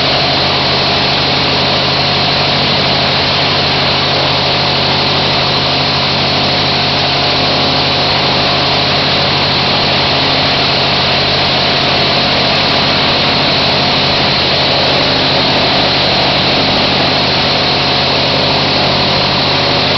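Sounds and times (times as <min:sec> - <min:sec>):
engine running steadily: 0:00.0 - 0:19.9.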